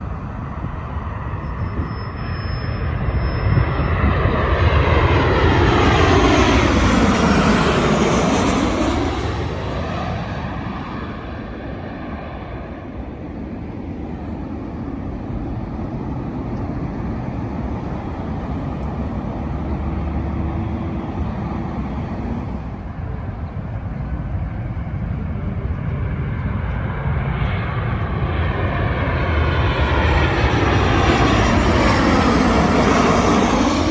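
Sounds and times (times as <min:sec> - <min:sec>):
another aircraft approaching: 0:00.0 - 0:33.9
jet airliner passing overhead: 0:00.0 - 0:33.9.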